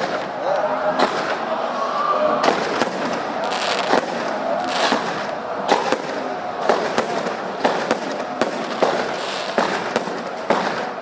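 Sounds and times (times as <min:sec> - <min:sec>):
fireworks crackling: 0:00.0 - 0:01.5, 0:02.4 - 0:11.0
fireworks bangs: 0:00.0 - 0:01.7, 0:02.3 - 0:11.0.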